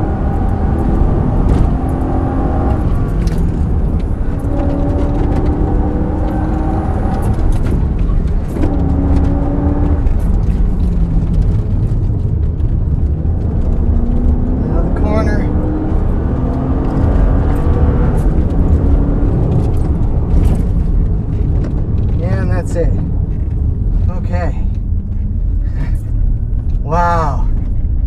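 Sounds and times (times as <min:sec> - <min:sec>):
car engine accelerating: 0:00.0 - 0:28.0
road and wind noise: 0:00.0 - 0:28.0.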